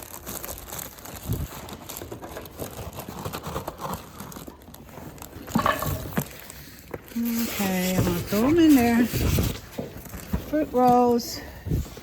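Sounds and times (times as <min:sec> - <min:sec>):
rustling and crinkling handling noise: 0:00.0 - 0:12.0.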